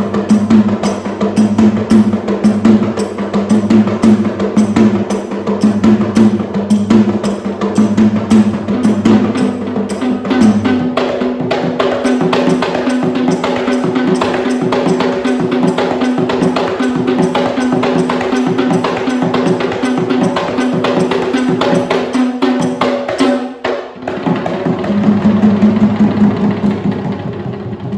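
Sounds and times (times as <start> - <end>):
fast frame drum playing: 0.0 - 27.9.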